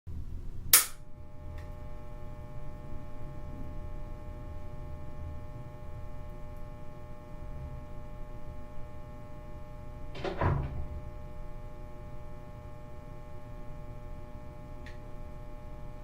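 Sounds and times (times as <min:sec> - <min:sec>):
lamp electrical hum: 0:00.1 - 0:16.0.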